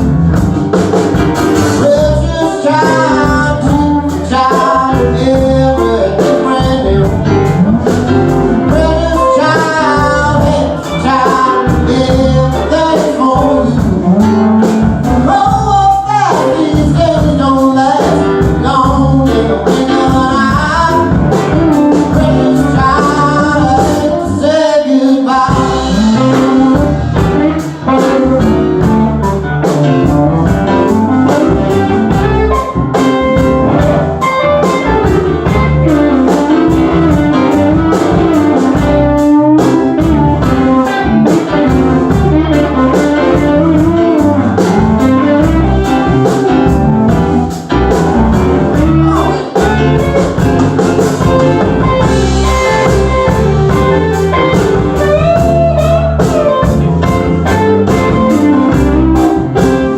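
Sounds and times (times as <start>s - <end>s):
live band playing: 0.0s - 59.9s
person singing: 1.6s - 7.9s, 8.5s - 59.9s.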